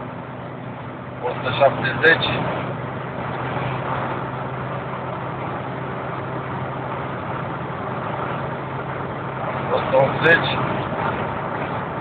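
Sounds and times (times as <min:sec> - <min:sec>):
car engine drone: 0:00.0 - 0:12.0
wind and road noise: 0:00.0 - 0:12.0.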